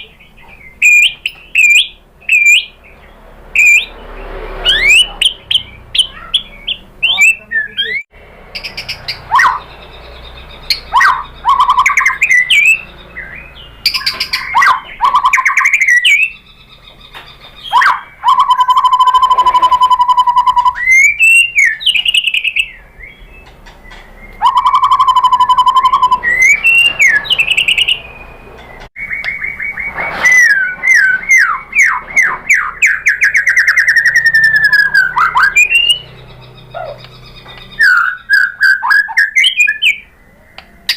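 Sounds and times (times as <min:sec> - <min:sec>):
songbird singing whistled phrases: 0:00.0 - 0:02.8, 0:03.6 - 0:03.9, 0:04.7 - 0:40.9.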